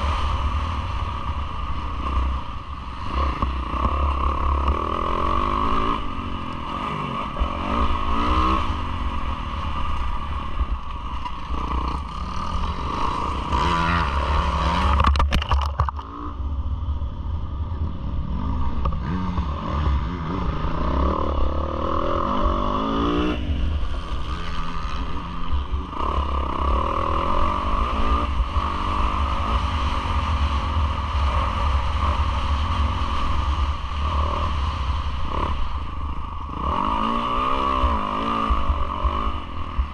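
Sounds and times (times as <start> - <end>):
motorcycle engine revving: 0.0 - 16.5, 18.2 - 39.9.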